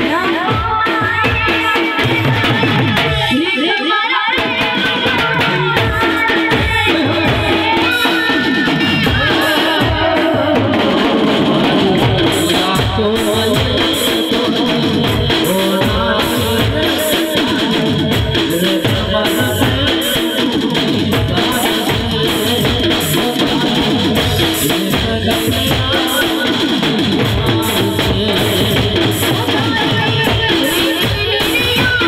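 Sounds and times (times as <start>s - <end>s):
drums and percussion: 0.0s - 32.0s
person singing: 0.0s - 32.0s.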